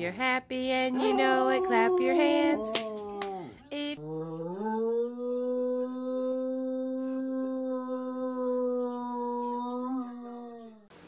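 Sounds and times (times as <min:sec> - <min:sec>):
dog howling: 0:00.9 - 0:03.6, 0:04.4 - 0:10.8.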